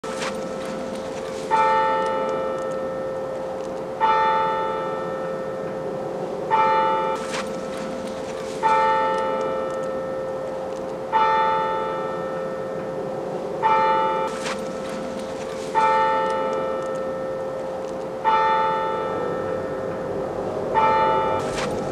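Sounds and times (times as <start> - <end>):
deep bell tolling: 0.0 - 21.9
low drone: 0.0 - 21.9.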